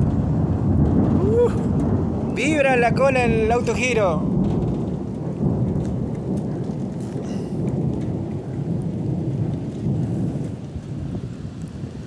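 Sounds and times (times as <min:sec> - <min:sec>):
heavy rain: 0:00.0 - 0:12.0
wind: 0:00.0 - 0:12.0.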